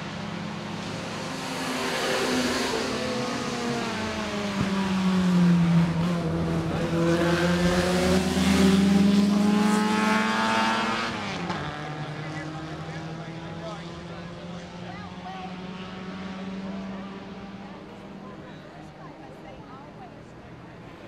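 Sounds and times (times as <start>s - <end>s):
sports cars racing past: 0.0s - 21.0s.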